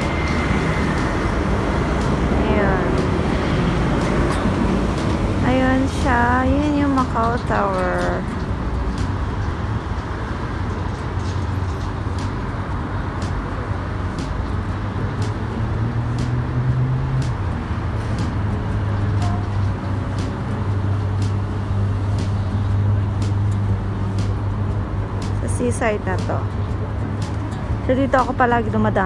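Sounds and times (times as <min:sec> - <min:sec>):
road traffic engines humming: 0:00.0 - 0:29.0.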